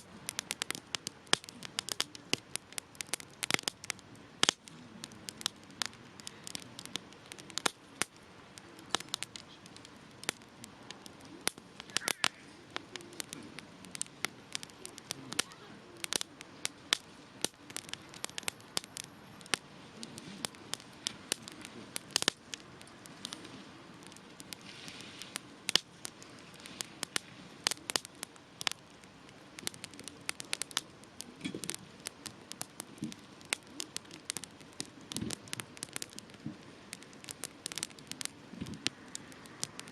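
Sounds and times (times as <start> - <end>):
hiss of flames: 0.0 - 39.9
wood fire popping and crackling: 0.0 - 39.9.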